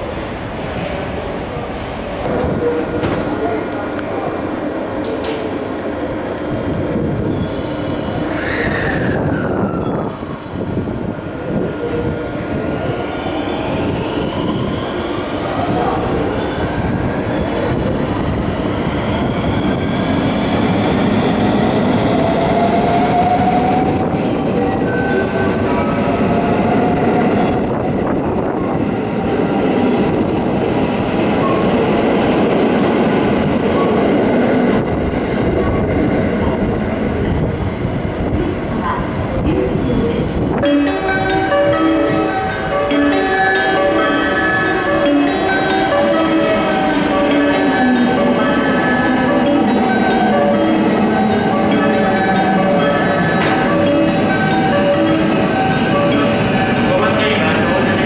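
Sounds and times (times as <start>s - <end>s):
train wheels rumbling: 2.0s - 58.0s.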